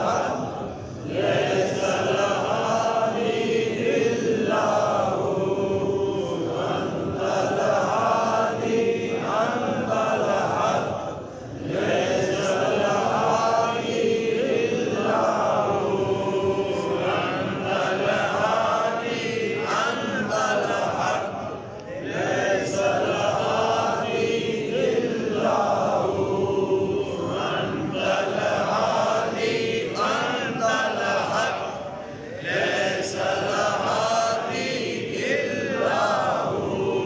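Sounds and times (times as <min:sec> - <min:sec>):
voices chanting melodically: 0:00.0 - 0:37.0.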